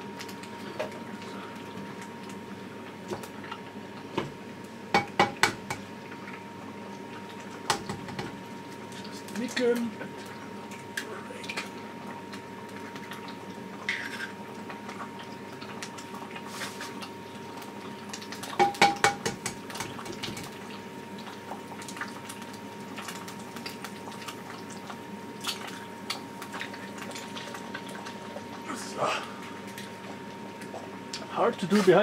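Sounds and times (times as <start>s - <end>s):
eggs sizzling in oil: 0.0s - 32.0s.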